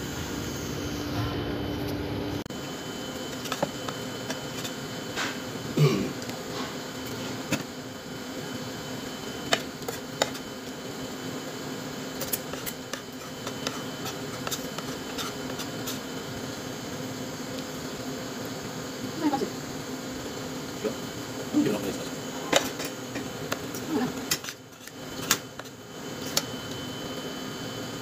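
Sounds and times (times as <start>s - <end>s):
air conditioner hum: 0.0s - 28.0s.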